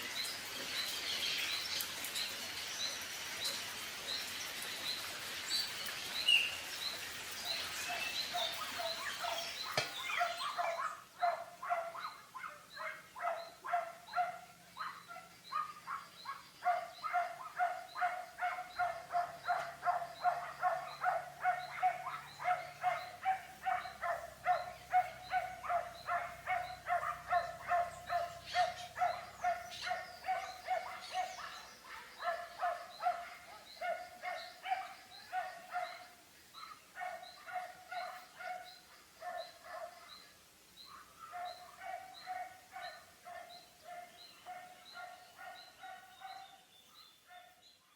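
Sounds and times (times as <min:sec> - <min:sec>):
outdoor background noise: 0:00.0 - 0:47.9.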